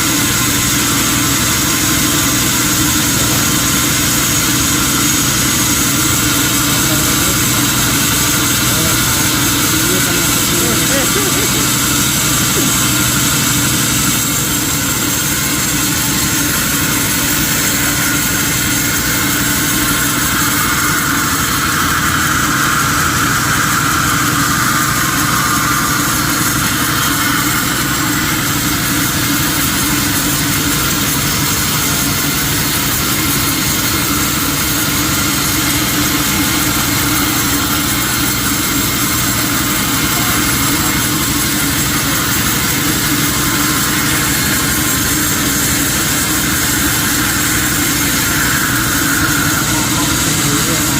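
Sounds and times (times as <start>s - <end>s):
sawmill machinery drone: 0.0s - 50.9s.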